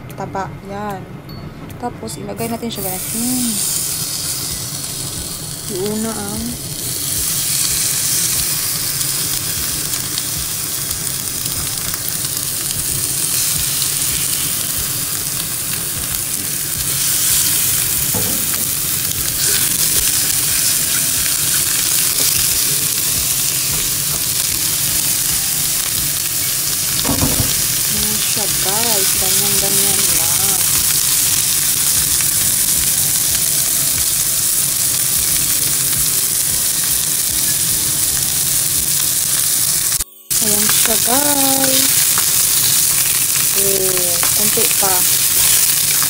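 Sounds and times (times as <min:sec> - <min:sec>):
chicken sizzling in frying pan: 0:02.7 - 0:46.0.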